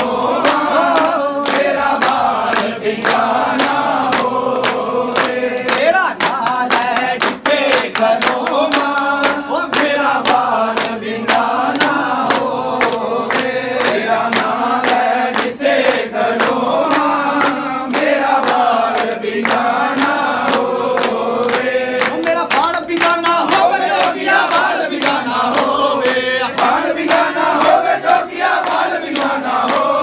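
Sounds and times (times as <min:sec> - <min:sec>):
hand claps: 0:00.0 - 0:30.0
men singing in unison: 0:00.0 - 0:30.0.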